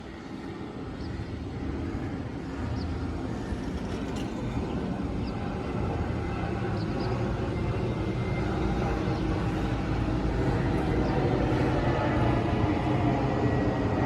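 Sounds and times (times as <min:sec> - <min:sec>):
airliner engine rumble: 0:00.0 - 0:14.0.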